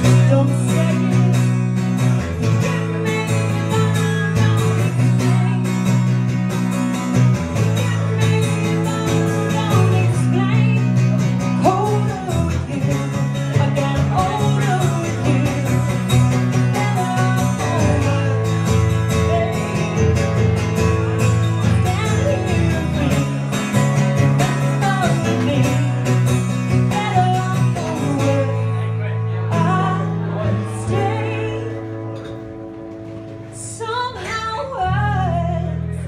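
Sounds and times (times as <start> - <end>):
guitar melody line: 0.0 - 36.0
strummed acoustic guitar: 0.0 - 36.0.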